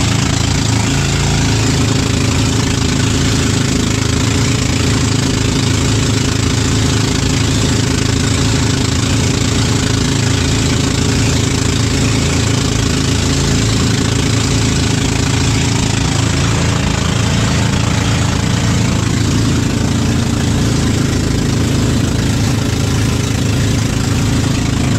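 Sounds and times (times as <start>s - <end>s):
boat engine running: 0.0s - 24.9s
water rushing along hull: 0.0s - 24.9s.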